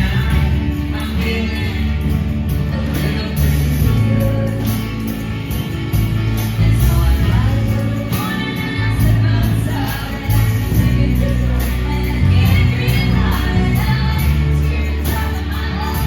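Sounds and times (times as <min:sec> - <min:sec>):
drums keeping a regular beat: 0:00.0 - 0:16.0
electric guitar: 0:00.0 - 0:16.0
held bass notes: 0:00.0 - 0:16.0.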